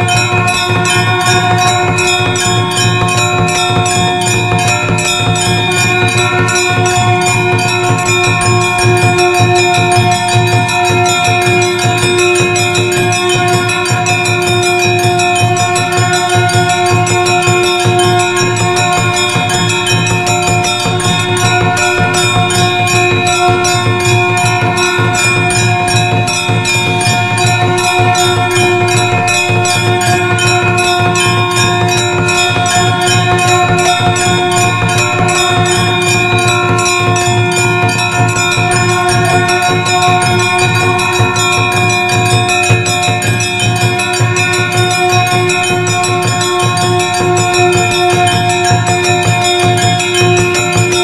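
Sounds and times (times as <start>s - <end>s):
temple bells ringing rapidly: 0.0s - 51.0s.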